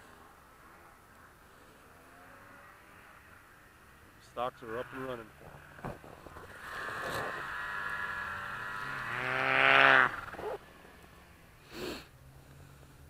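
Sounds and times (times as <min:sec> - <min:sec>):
low engine hum: 0:00.0 - 0:13.0
snowmobile engine revving: 0:00.2 - 0:12.3.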